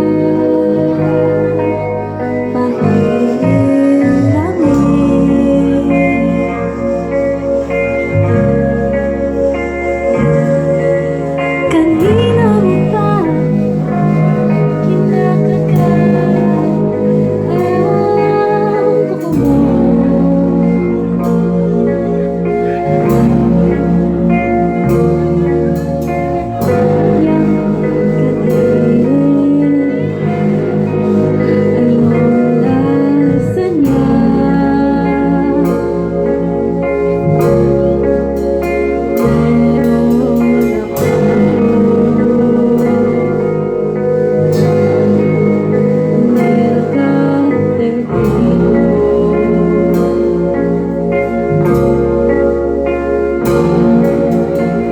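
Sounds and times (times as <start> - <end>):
live band playing: 0.0 - 54.9
person singing: 0.0 - 54.9.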